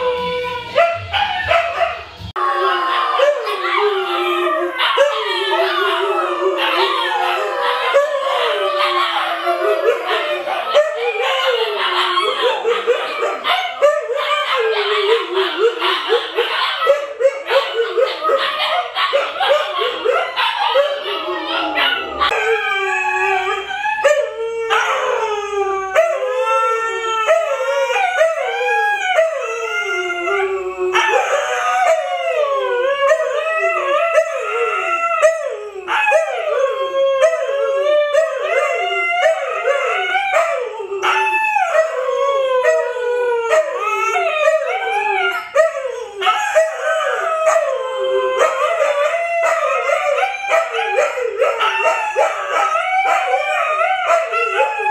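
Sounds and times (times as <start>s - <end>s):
dogs howling together: 0.0s - 54.9s.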